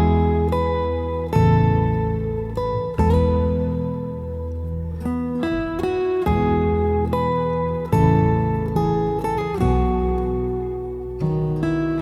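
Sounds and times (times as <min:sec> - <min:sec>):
acoustic guitar notes: 0:00.0 - 0:12.0.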